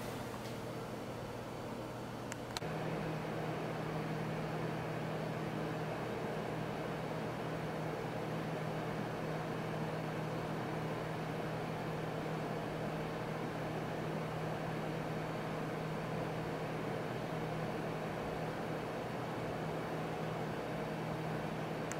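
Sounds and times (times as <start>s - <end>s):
air purifier fan running: 0.0s - 21.9s.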